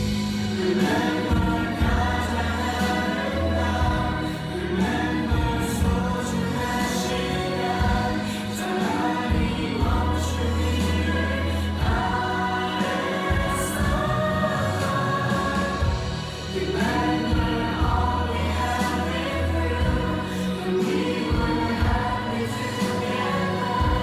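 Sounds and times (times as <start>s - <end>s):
backing music with bass line: 0.0s - 24.0s
choir singing: 0.0s - 24.0s.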